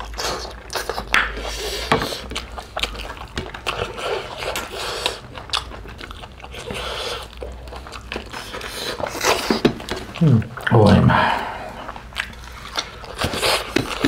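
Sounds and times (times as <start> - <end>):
people chewing food: 0.0 - 14.0.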